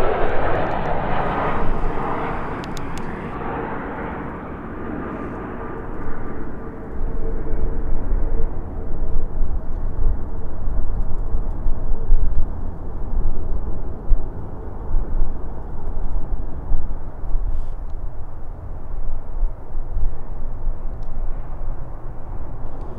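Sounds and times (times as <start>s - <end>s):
jet engines rumbling: 0.0s - 17.6s, 18.2s - 22.9s.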